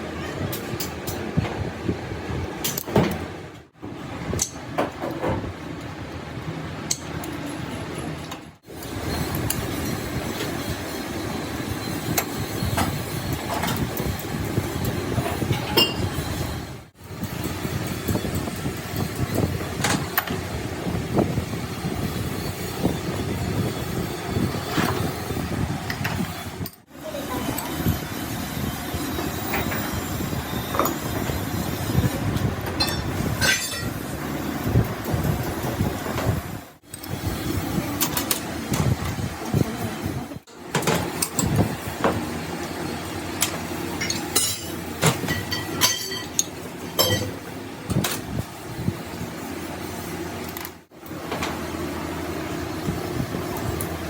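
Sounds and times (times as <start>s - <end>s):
workshop background din: 0.0s - 54.0s.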